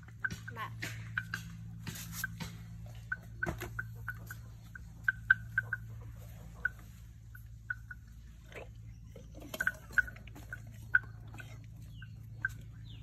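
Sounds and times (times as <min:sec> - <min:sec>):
low steady hum: 0:00.0 - 0:13.0
bird chirping: 0:02.2 - 0:13.0.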